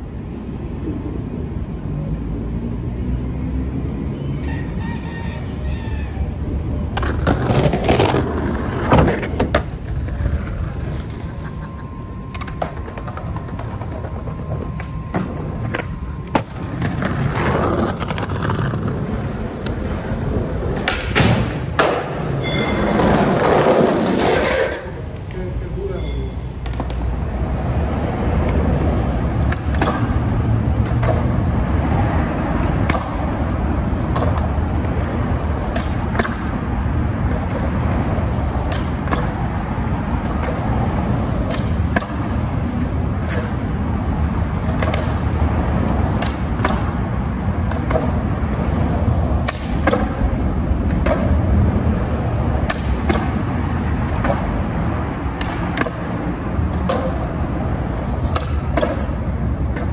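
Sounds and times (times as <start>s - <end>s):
skateboard wheels rolling on asphalt: 0.0s - 59.9s
skateboard clacking on ground: 6.8s - 59.9s.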